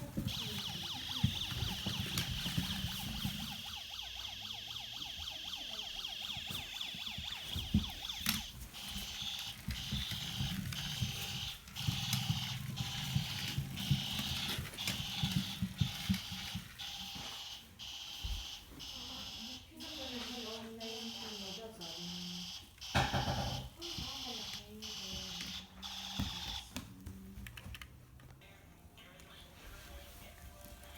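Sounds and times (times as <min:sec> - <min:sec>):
pulsing high alarm tone: 0:00.2 - 0:26.7
toy siren warbling wail: 0:00.2 - 0:26.7.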